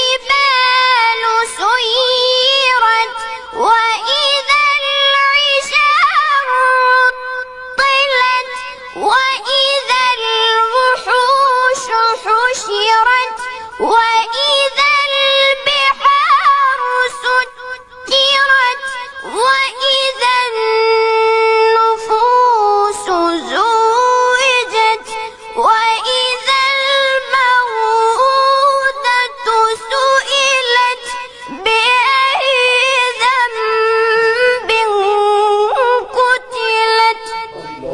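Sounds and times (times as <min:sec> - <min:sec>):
person chanting recitation: 0:00.0 - 0:37.9.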